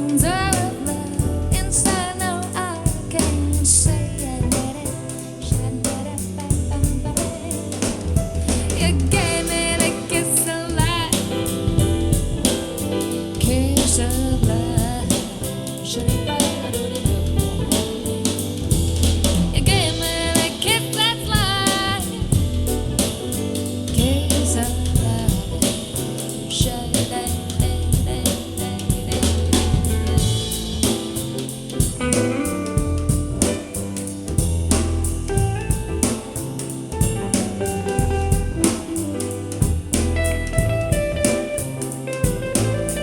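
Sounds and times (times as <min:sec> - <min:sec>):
band music: 0:00.0 - 0:43.0.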